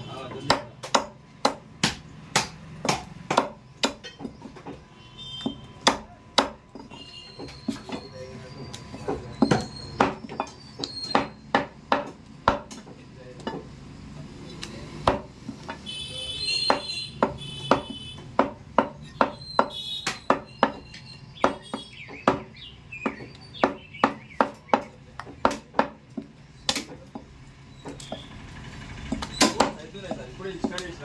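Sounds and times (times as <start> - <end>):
cleaver chopping meat: 0.2 - 8.1, 8.8 - 13.7, 14.6 - 28.3, 29.1 - 31.0.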